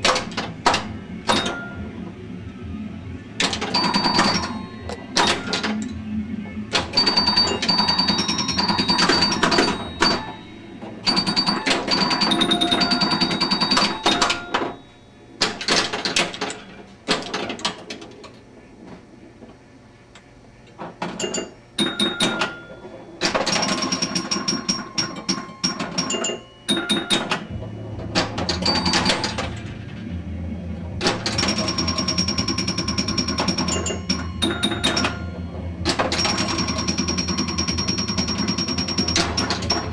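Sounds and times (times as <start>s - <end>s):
pinball machine clattering: 0.0s - 2.2s, 3.4s - 19.6s, 20.6s - 39.9s.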